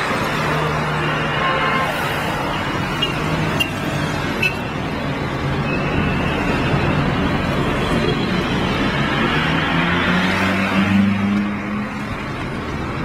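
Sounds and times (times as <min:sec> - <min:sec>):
cars driving by: 0:00.0 - 0:13.0.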